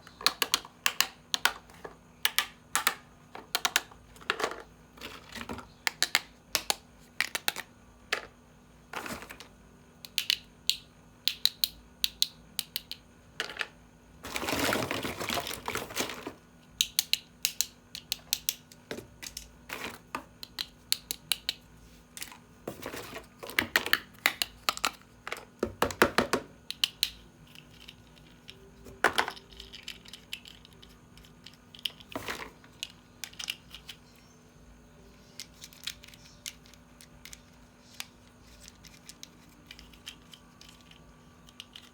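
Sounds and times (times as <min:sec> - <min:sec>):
plastic pieces clicking and tapping: 0:00.0 - 0:08.4, 0:09.0 - 0:13.8, 0:16.8 - 0:21.6, 0:22.2 - 0:34.1, 0:35.4 - 0:41.9.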